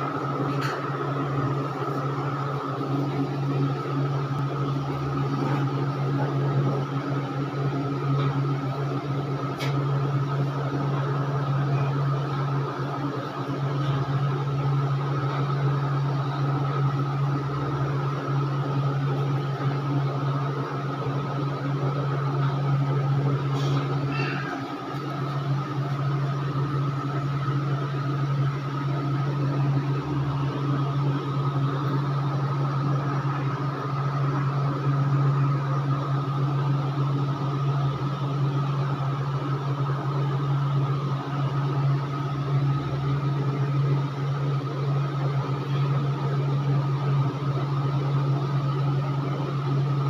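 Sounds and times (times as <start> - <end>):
steady machine hum: 0.0 - 50.0.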